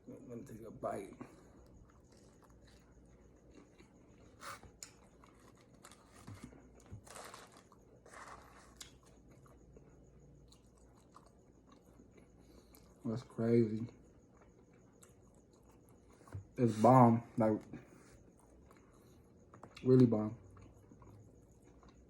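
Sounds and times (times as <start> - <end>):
person chewing food: 1.2 - 13.0, 13.8 - 16.8, 17.8 - 22.0.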